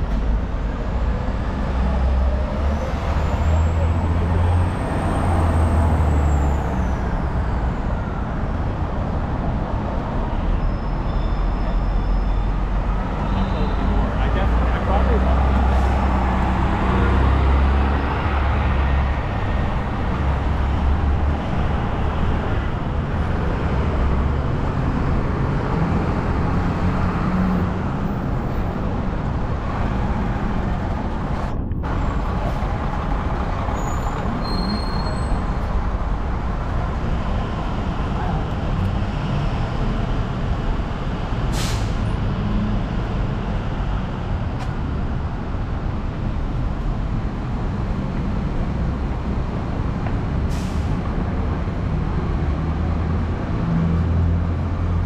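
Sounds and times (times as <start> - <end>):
heavy street traffic: 0.0 - 55.0.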